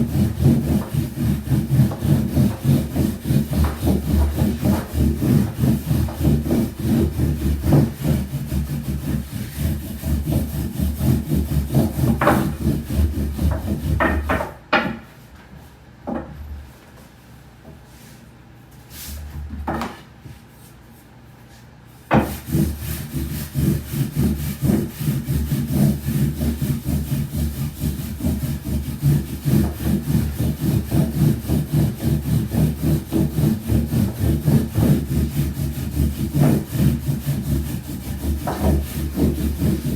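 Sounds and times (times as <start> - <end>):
rolling pin rubbing on dough: 0.0 - 14.5, 22.1 - 39.9.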